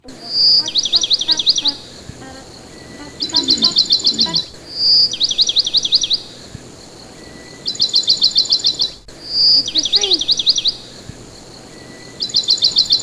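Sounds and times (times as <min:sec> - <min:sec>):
parakeet chirping: 0:00.0 - 0:13.0.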